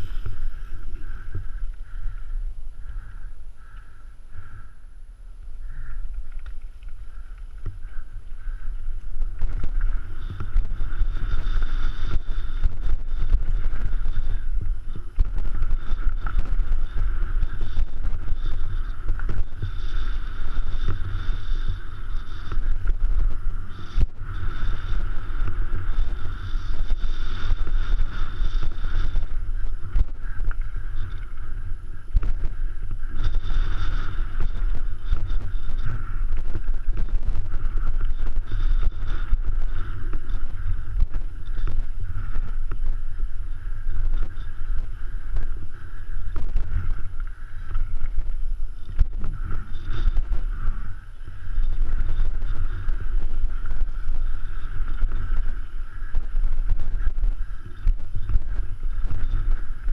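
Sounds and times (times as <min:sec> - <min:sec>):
bike tyres rolling on dirt: 0:00.0 - 0:59.9
wind buffeting microphone: 0:00.0 - 0:59.9.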